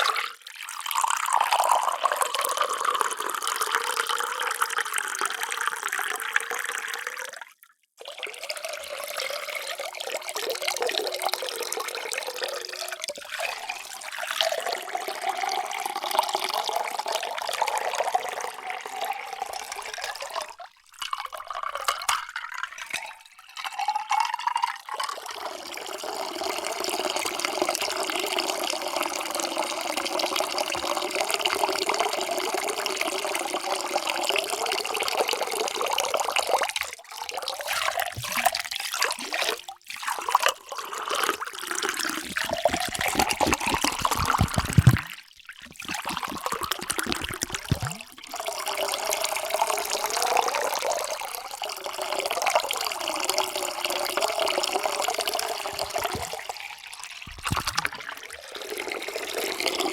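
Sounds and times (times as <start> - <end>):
water pouring into vessel: 0.0 - 7.4, 8.0 - 59.9.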